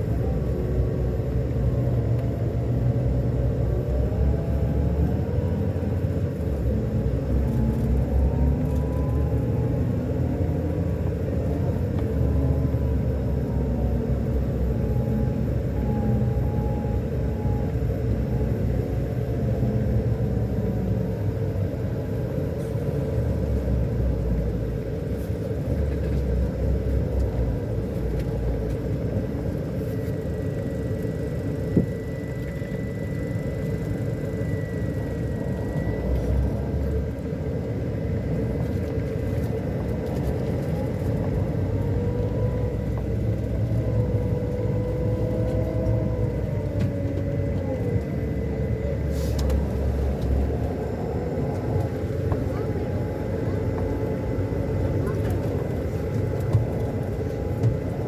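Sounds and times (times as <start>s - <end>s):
diesel coach engine drone: 0.0s - 58.0s.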